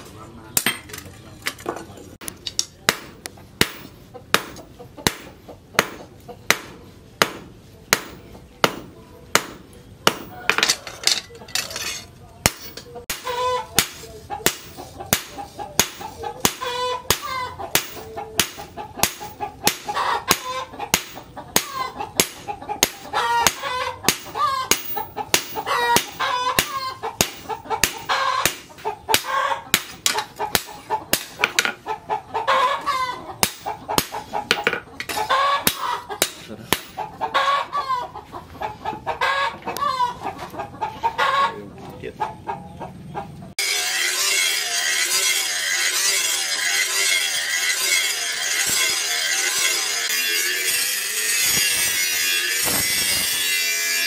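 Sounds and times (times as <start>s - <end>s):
chickens clucking: 0.0s - 43.6s
hammer striking metal on anvil: 2.2s - 31.8s, 33.4s - 37.0s, 43.6s - 54.0s.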